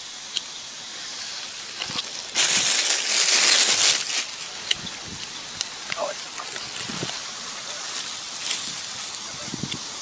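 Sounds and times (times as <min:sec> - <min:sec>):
plants rustling being torn up: 0:01.2 - 0:09.9.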